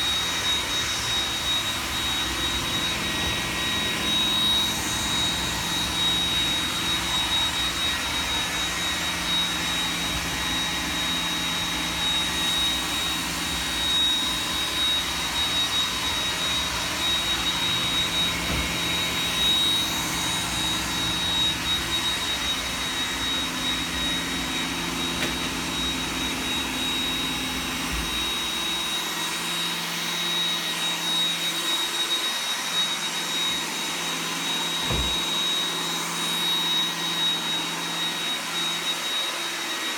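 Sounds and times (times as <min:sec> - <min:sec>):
robot vacuum cleaner whine: 0:00.0 - 0:39.9.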